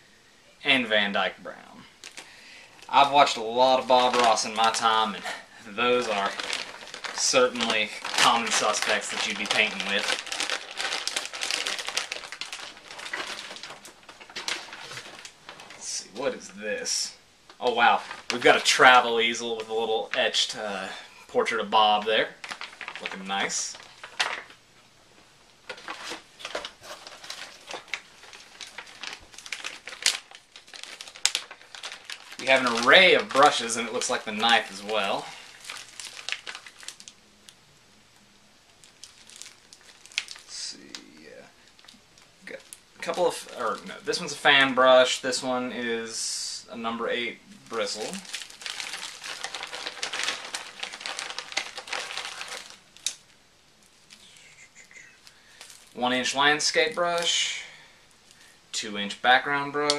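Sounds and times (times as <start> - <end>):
packaging rustling and crinkling: 2.0 - 24.6, 25.6 - 37.2, 38.7 - 46.2, 46.8 - 58.6.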